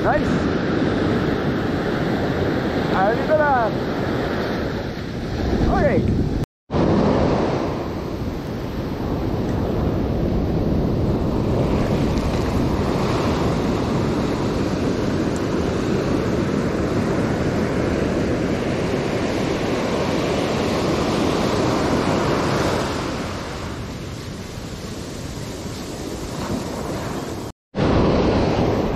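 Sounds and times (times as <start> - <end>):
ocean surf on beach: 0.0 - 28.9.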